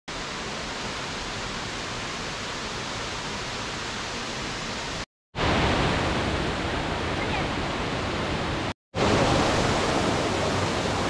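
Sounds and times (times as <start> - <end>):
waterfall rushing: 0.1 - 11.0.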